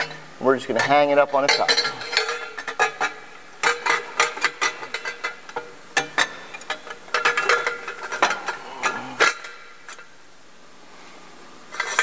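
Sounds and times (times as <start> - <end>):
metal pipe clanking: 0.0 - 10.1.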